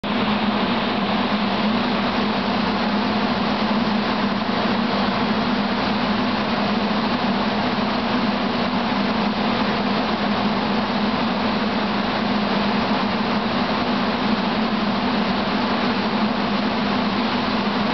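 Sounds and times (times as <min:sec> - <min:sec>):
railcar equipment humming and whirring: 0:00.0 - 0:17.9.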